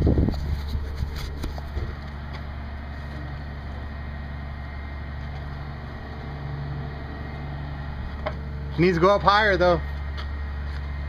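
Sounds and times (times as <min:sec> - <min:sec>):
crane truck engine droning: 0:00.0 - 0:11.0.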